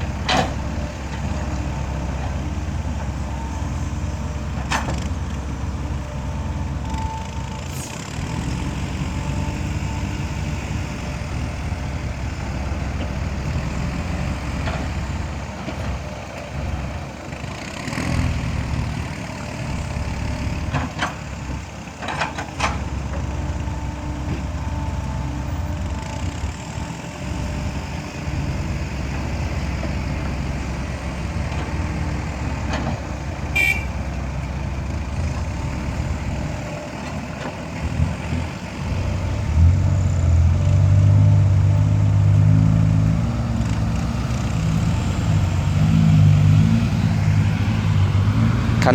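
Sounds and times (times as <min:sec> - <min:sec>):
diesel truck engines running: 0:00.0 - 0:48.9.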